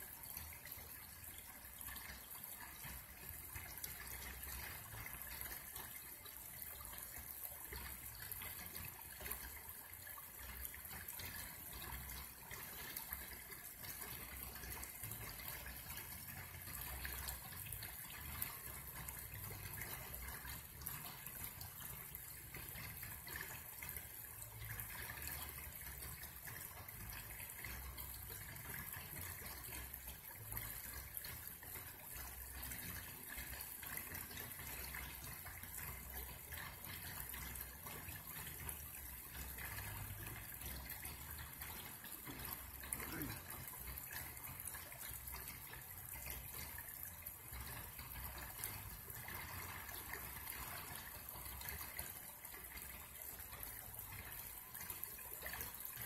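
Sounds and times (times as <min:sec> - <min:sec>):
creek babbling over rocks: 0:00.0 - 0:56.0.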